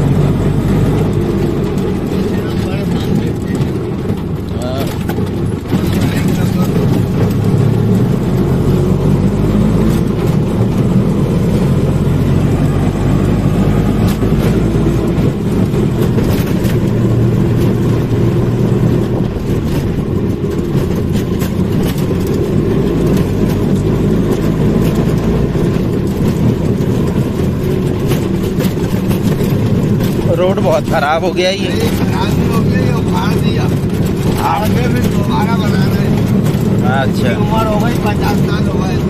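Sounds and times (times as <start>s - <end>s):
auto-rickshaw engine running: 0.0s - 39.0s.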